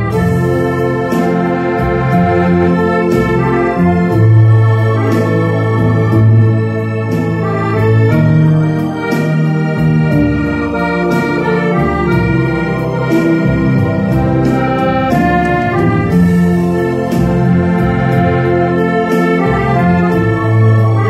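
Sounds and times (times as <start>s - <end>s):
piano accordion slow melody: 0.0s - 21.0s.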